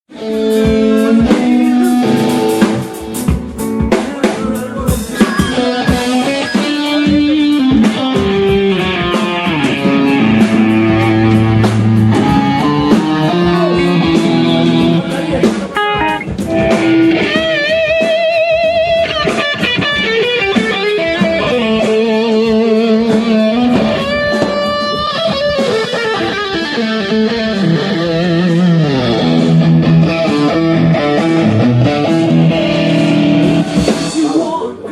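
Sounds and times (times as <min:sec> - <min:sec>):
drum kit: 0:00.1 - 0:34.9
electric guitar rock lines: 0:00.1 - 0:34.9.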